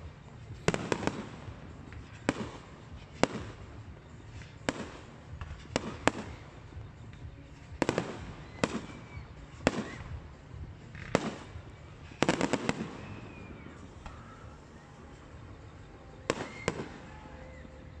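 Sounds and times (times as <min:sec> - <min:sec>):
fireworks bangs: 0:00.0 - 0:14.8, 0:16.1 - 0:18.0.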